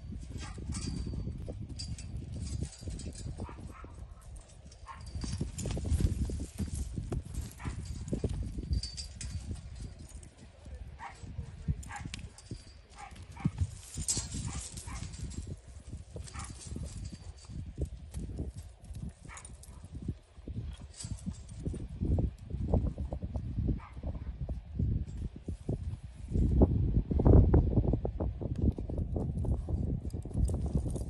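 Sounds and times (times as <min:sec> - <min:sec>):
horse hooves thudding on dirt: 0:00.0 - 0:26.6, 0:28.3 - 0:31.0.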